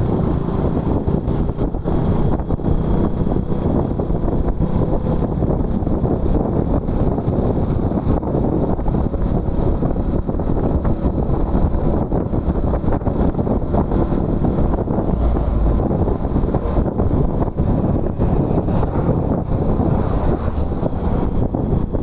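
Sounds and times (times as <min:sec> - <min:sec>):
motorcycle ride rumble: 0:00.0 - 0:22.0
wind buffeting microphone: 0:00.0 - 0:22.0.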